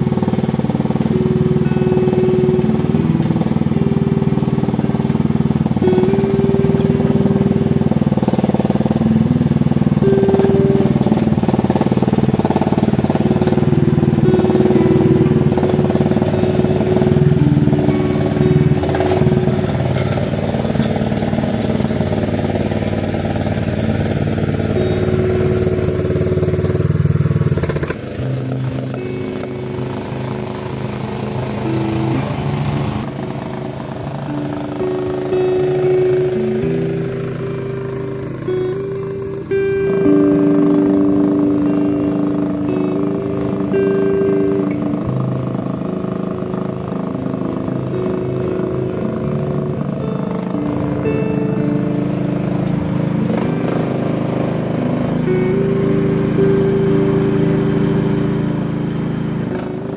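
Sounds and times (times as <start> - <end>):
engine running under load: 0.0 - 59.9
high whining tone: 0.0 - 59.9.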